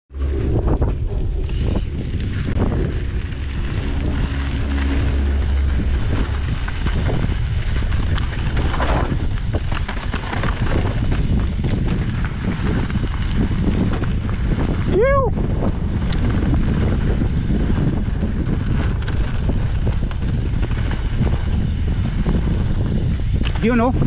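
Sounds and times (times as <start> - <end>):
bike rattling: 0.1 - 24.0
wind buffeting microphone: 0.1 - 24.0.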